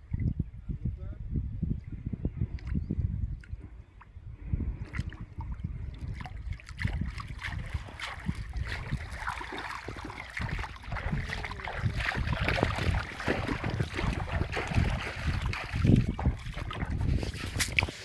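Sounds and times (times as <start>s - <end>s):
wind buffeting microphone: 0.0s - 18.0s
water splashing and sloshing: 2.5s - 18.0s.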